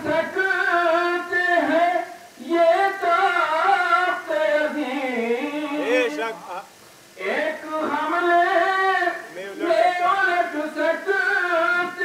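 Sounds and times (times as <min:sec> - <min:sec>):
man reciting verse melodically: 0:00.0 - 0:12.0.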